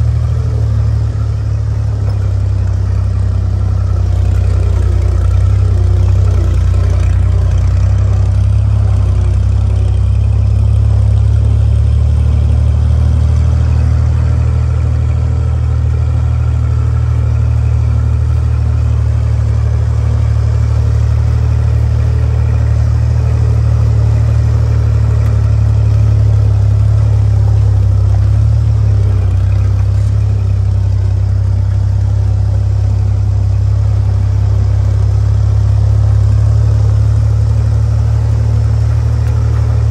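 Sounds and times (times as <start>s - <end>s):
jeep engine running: 0.0s - 39.9s.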